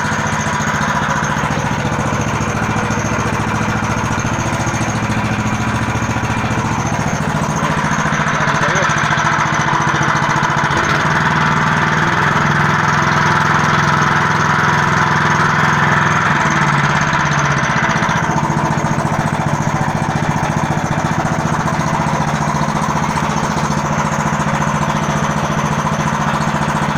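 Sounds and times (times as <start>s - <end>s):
all-terrain vehicle engine running: 0.0s - 26.9s.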